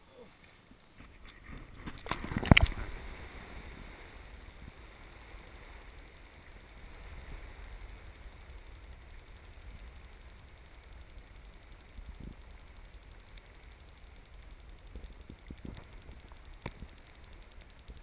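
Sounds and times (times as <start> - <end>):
muffled underwater rumble: 1.0 - 18.0
water splashing against camera: 1.0 - 18.0.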